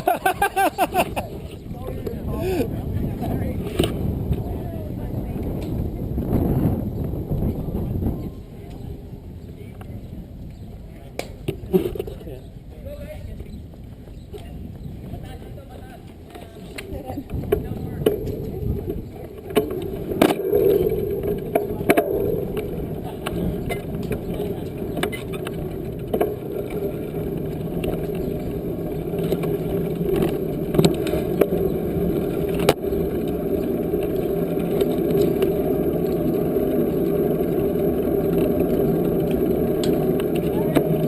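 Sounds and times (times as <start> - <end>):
bicycle rumbling on trail: 0.0 - 41.0.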